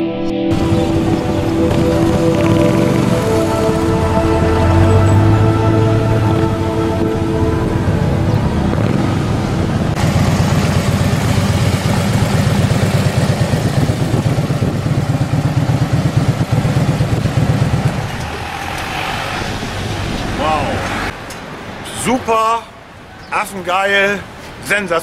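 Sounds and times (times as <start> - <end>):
motorcycle engines pulsing: 0.5 - 21.9.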